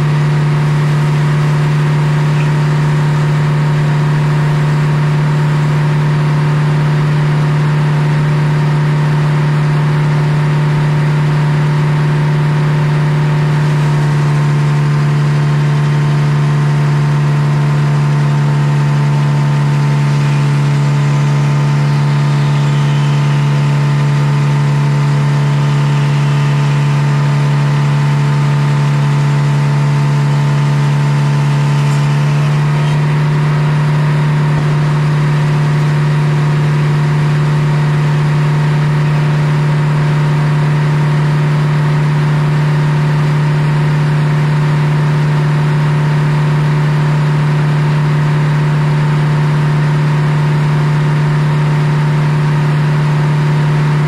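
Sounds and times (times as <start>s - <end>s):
circular saw blade droning: 0.0s - 54.0s.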